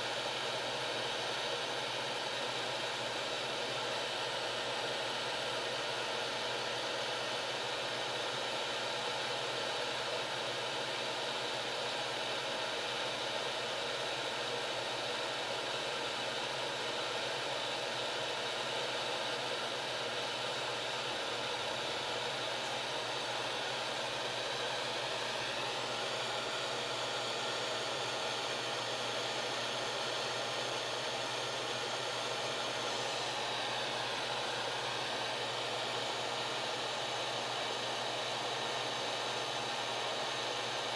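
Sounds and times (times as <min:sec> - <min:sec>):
hot-air blower running: 0:00.0 - 0:40.9.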